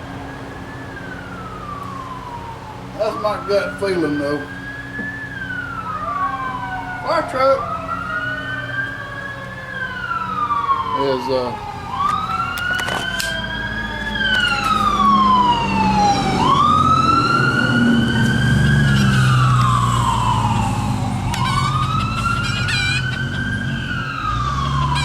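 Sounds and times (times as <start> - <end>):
fire truck siren wailing: 0.0 - 25.0.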